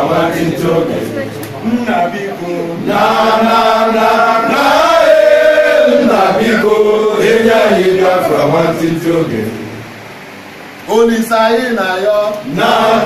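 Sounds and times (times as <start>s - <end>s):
voices chanting in held notes: 0.0s - 10.0s, 12.4s - 13.0s.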